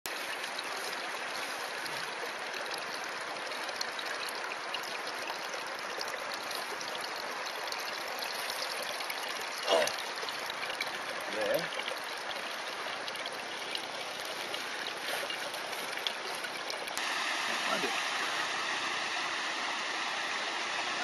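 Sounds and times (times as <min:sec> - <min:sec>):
water trickling: 0:00.1 - 0:21.0.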